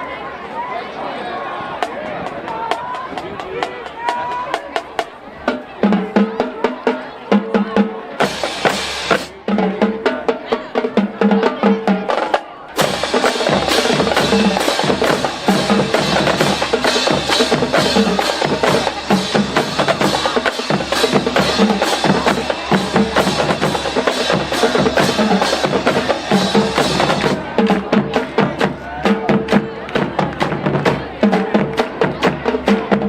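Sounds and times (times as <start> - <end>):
marching drumline playing: 1.8 - 33.0.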